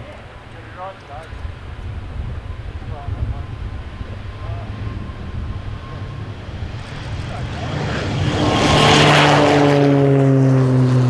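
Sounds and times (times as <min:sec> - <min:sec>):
aircraft propeller and turbine: 0:00.0 - 0:11.0
turboprop engine drone: 0:00.0 - 0:11.0.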